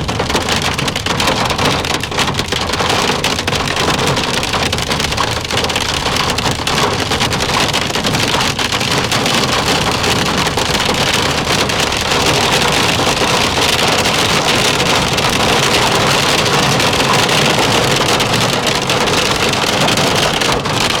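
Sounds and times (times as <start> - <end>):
car road noise: 0.0 - 21.0
hail clattering on car: 0.0 - 21.0.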